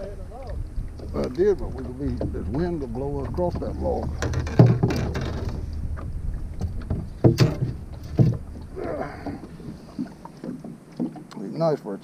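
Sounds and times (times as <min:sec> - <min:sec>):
steady low rumble: 0:00.0 - 0:10.4
knocks and thumps in a boat: 0:00.0 - 0:11.6.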